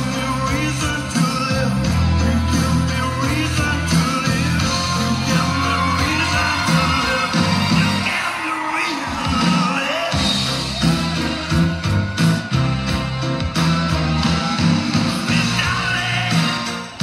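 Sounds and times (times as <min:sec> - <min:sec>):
loud pop music with singing: 0:00.0 - 0:17.0.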